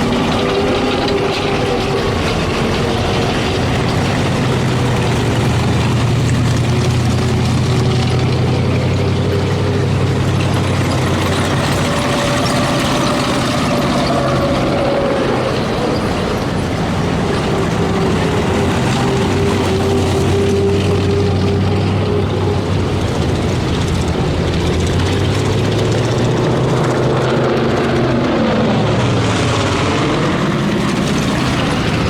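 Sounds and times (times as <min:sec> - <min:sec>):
steel tracks clattering on gravel: 0:00.0 - 0:32.0
tracked vehicle engines droning: 0:00.0 - 0:32.0.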